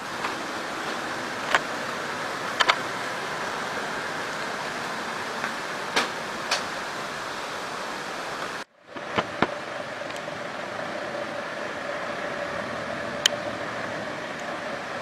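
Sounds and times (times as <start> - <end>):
faint engine hum: 0.0 - 15.0
steady rushing outdoor noise: 0.0 - 15.0.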